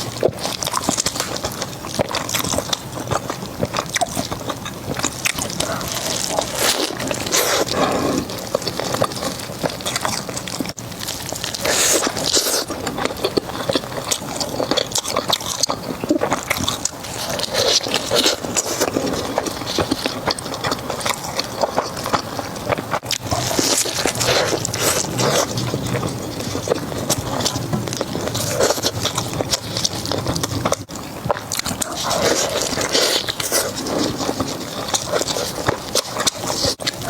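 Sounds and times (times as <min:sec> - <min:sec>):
wet mouth noises: 0:00.0 - 0:10.8, 0:11.6 - 0:37.0
person chewing crispy food: 0:00.0 - 0:37.0.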